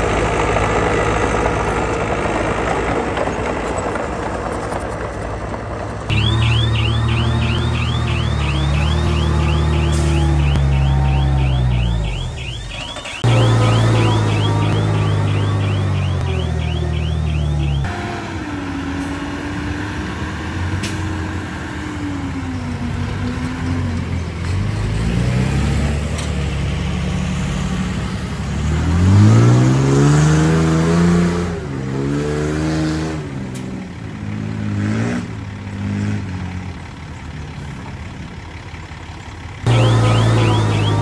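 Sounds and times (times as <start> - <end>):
diesel engine of earthmoving machine: 0.0 - 41.0.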